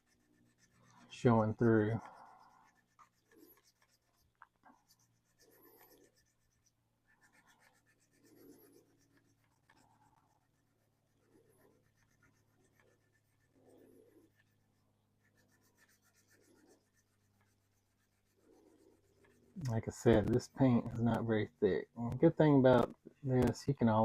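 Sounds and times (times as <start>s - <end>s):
sandpaper rubbing painted surface: 0.0s - 21.6s.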